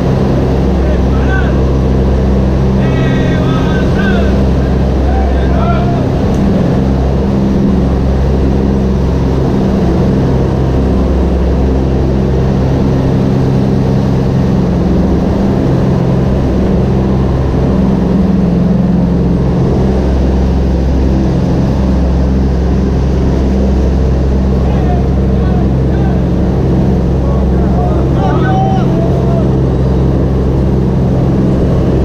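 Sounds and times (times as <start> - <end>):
propeller plane engines droning: 0.0 - 32.0.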